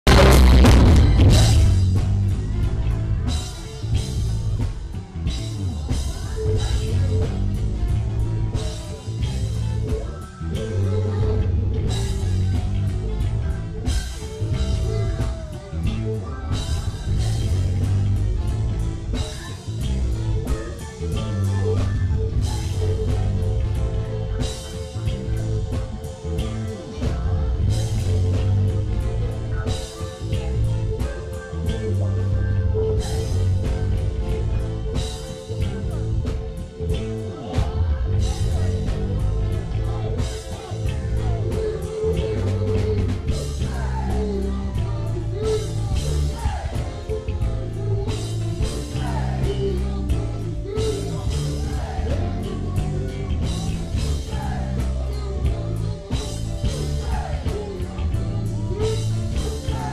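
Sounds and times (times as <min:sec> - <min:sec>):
funk band playing: 0:00.0 - 0:59.9
heavy electric bass line: 0:00.0 - 0:59.9.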